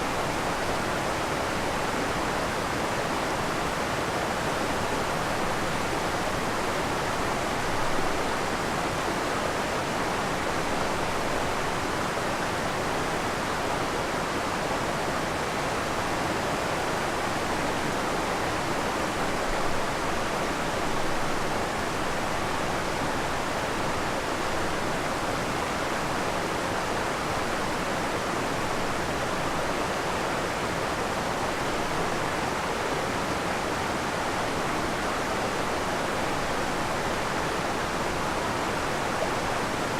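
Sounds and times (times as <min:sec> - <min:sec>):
waterfall and creek rushing: 0:00.0 - 0:39.9.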